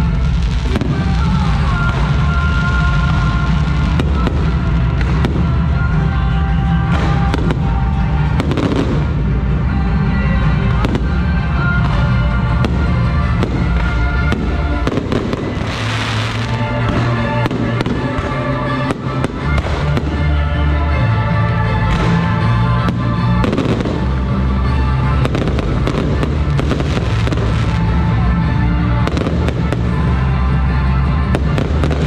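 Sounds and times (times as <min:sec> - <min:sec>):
fireworks banging and crackling: 0:00.0 - 0:32.0
loud music with heavy bass: 0:00.0 - 0:32.0.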